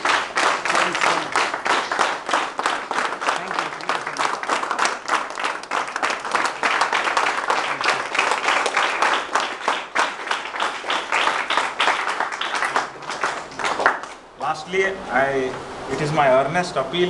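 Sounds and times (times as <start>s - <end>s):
crowd applauding: 0.0s - 14.2s.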